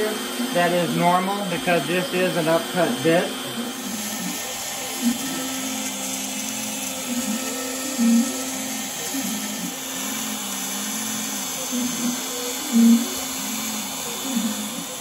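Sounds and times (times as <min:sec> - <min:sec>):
router spindle whine cutting wood: 0:00.0 - 0:15.0.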